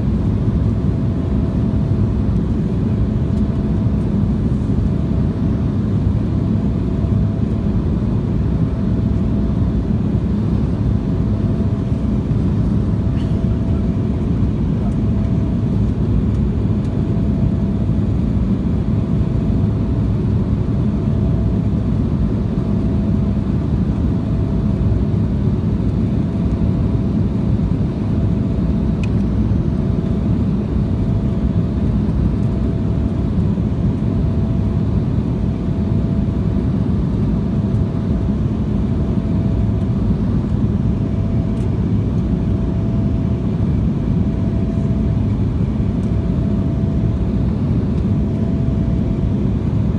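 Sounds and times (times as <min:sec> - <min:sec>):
airliner cabin engine noise: 0:00.0 - 0:49.9.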